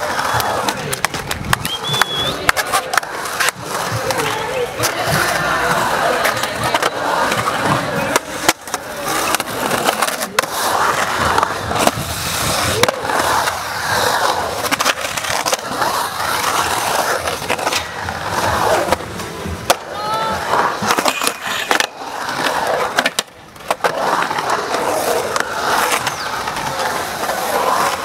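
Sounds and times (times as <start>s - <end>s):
skateboard clacks: 0.0s - 28.0s
skateboard wheels rolling on concrete: 0.0s - 28.0s.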